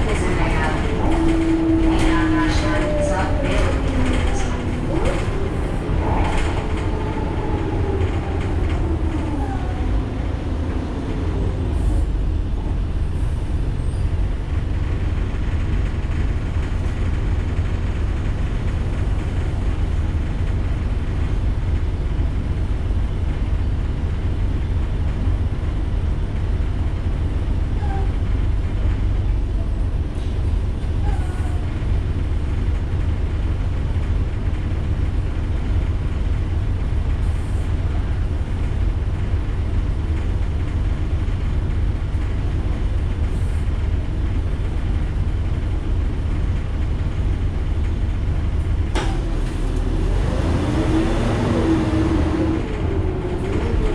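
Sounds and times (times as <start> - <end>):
bus diesel engine rumble: 0.0 - 53.9.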